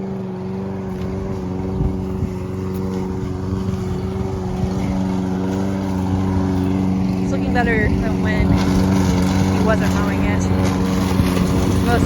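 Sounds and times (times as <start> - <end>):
lawn mower engine droning: 0.0 - 12.0.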